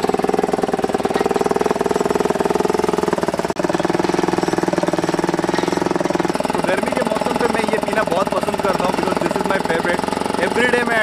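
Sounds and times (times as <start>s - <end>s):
small engine running: 0.0s - 11.0s
sugarcane crusher rollers: 0.0s - 11.0s.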